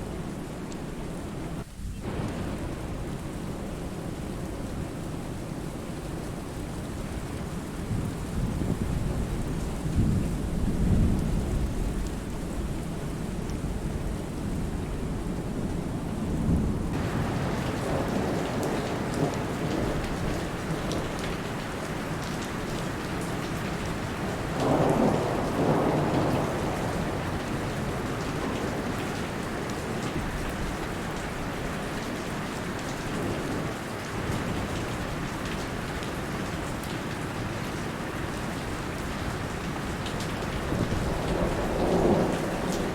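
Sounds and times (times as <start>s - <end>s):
rain falling steadily: 0.0s - 42.9s
thunder rumbling: 1.2s - 31.6s, 38.6s - 42.9s.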